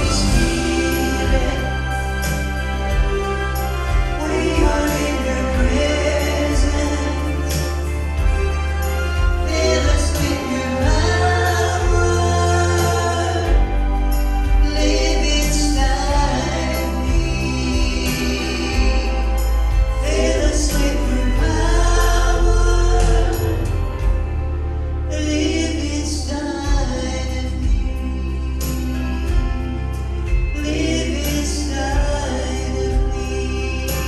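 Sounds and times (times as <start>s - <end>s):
vocal group singing gospel: 0.0s - 24.3s, 25.1s - 34.0s
instrumental accompaniment with heavy bass: 0.0s - 34.0s.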